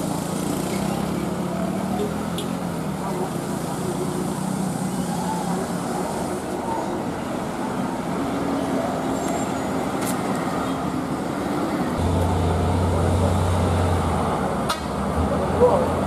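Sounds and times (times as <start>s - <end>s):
cars and trucks passing: 0.0s - 16.0s.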